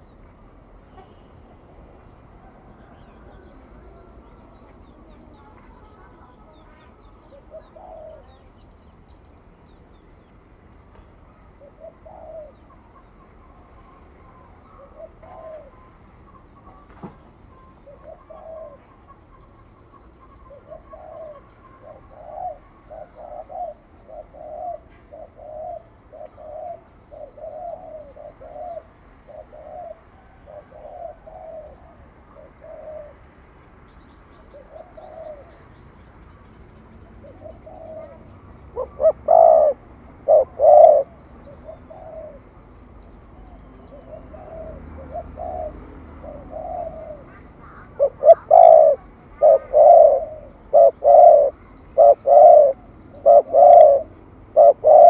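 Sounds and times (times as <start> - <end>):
dove cooing: 0.0 - 8.6, 11.3 - 16.9, 17.5 - 33.2, 34.5 - 35.8, 36.9 - 42.6, 43.3 - 55.0.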